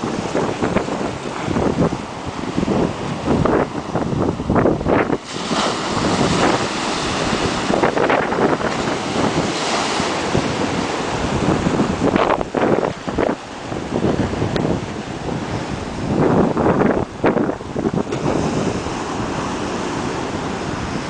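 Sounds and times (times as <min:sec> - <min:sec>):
waves breaking on concrete: 0:00.0 - 0:21.0
wind buffeting microphone: 0:00.0 - 0:21.0.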